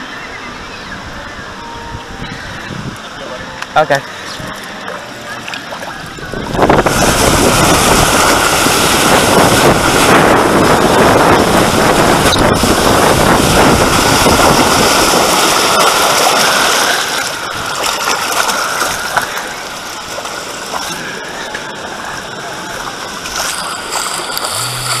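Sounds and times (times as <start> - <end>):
rush of slide water and wind: 0.0 - 25.0.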